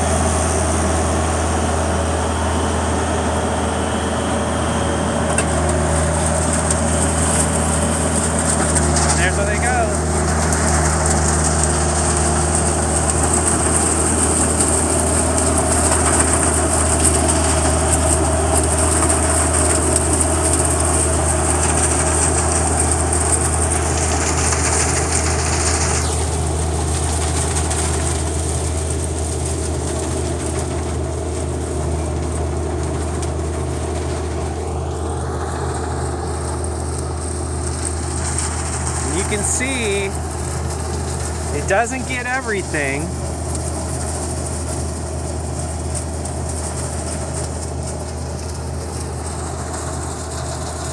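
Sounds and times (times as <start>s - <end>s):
harvester engine running: 0.0s - 50.9s.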